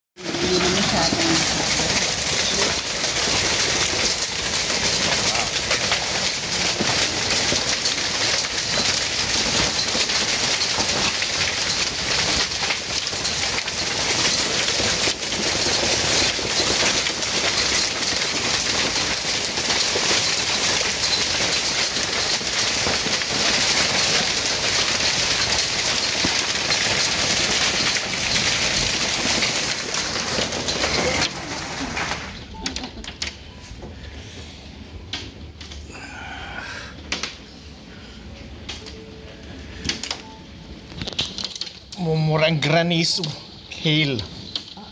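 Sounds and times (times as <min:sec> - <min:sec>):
hail and rain pelting a roof: 0:00.2 - 0:34.3, 0:35.1 - 0:44.9.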